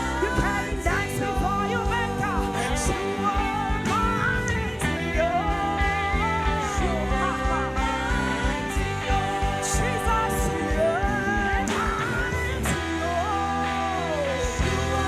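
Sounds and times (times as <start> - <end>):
worship band playing: 0.0 - 15.0.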